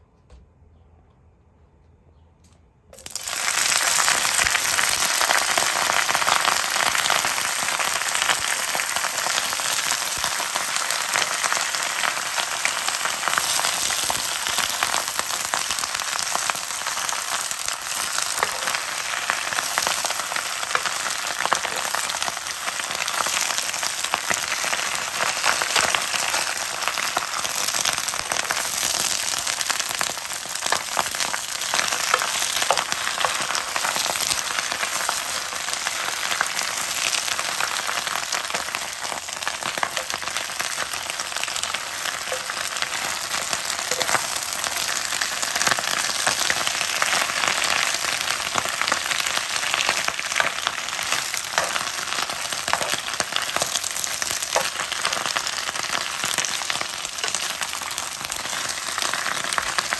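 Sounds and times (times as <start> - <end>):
vegetables sizzling in a frying pan: 3.0 - 59.9.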